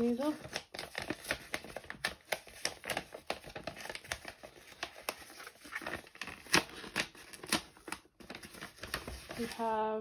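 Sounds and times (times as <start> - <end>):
paper envelopes rustling: 0.0 - 9.9.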